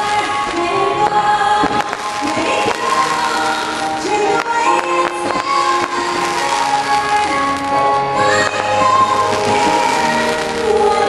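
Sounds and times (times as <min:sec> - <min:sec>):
firework cracks: 0:00.0 - 0:11.0
music with singing: 0:00.0 - 0:11.0.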